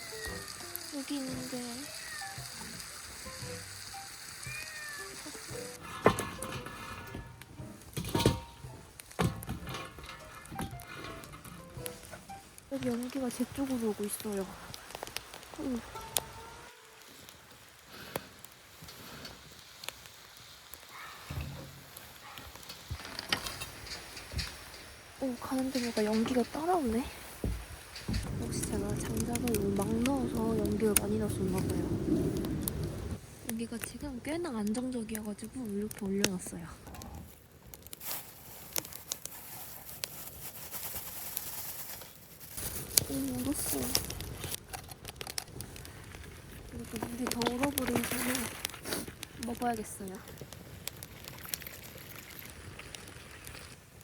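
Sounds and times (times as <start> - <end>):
faint hiss: 0.0 - 44.7, 45.5 - 54.0
campfire crackling: 0.0 - 54.0.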